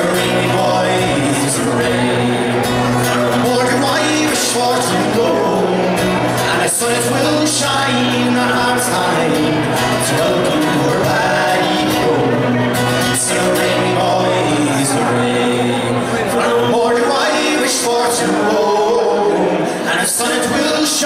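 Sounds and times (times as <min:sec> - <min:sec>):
acoustic guitar: 0:00.0 - 0:21.0
person singing: 0:00.0 - 0:21.0.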